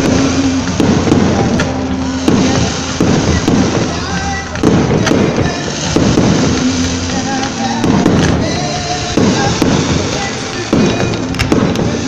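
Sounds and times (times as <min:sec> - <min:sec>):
crackle and rumble: 0:00.0 - 0:12.0
firework bangs: 0:00.0 - 0:12.0.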